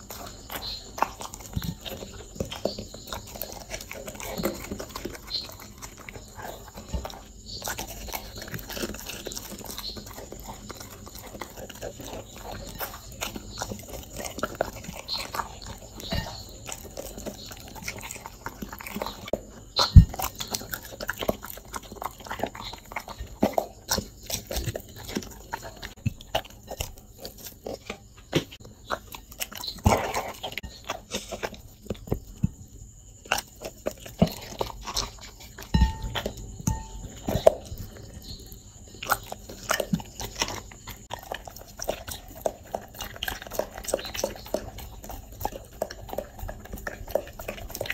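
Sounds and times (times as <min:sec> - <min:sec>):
teeth clicking: 0:00.0 - 0:32.6, 0:33.2 - 0:38.0, 0:38.9 - 0:47.9
dog chewing food: 0:00.0 - 0:47.9.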